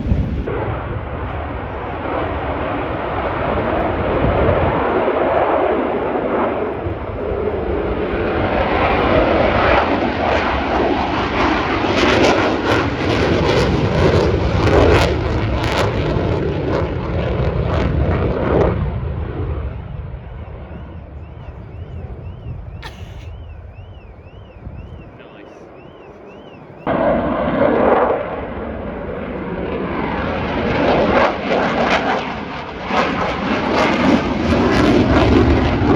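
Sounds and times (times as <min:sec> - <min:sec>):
jet aircraft roaring past: 0:00.0 - 0:35.9.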